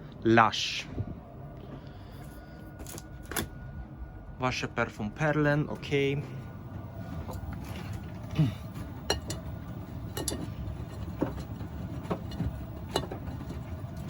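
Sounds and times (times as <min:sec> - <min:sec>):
washing machine rumble: 0:00.0 - 0:14.0.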